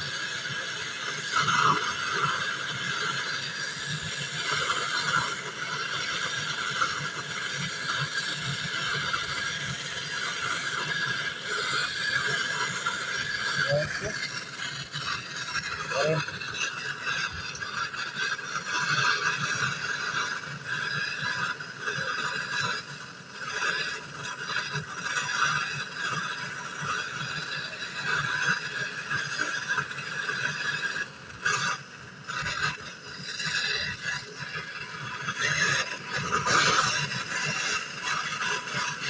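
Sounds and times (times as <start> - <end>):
brazing torch flame hissing: 0.0 - 39.0.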